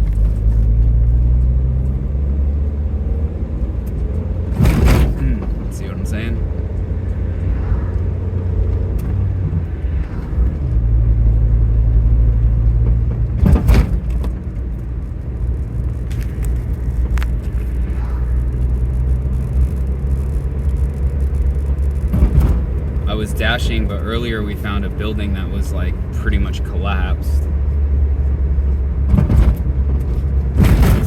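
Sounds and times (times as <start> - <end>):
car engine and road drone: 0.0 - 31.0.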